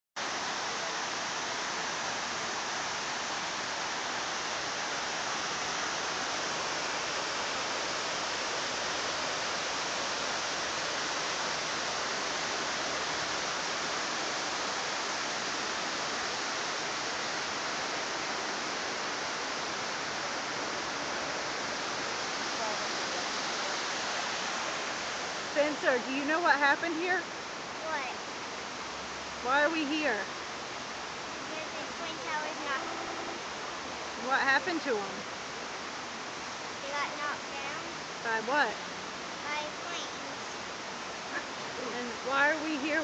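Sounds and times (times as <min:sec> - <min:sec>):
waterfall rushing into pool: 0:00.2 - 0:43.0.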